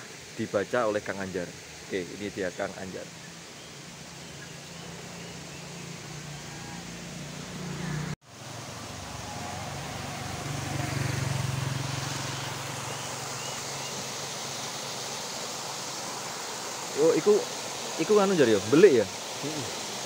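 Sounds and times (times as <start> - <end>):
spring water rushing: 0.0 - 20.0.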